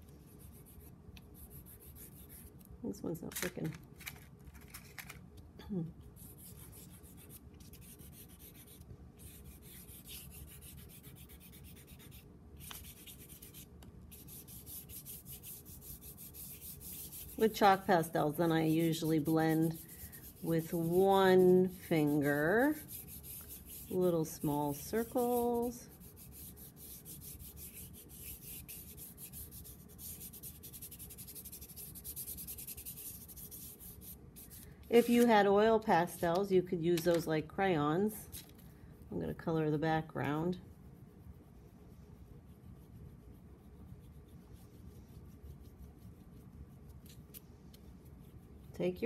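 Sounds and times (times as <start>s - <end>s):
chalk pastel scratching on paper: 0.2s - 2.6s, 6.2s - 35.4s, 39.2s - 49.0s.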